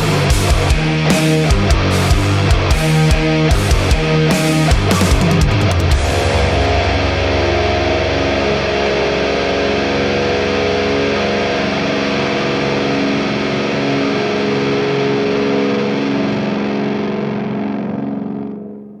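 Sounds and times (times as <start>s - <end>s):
distorted electric guitar chord: 0.0s - 19.0s.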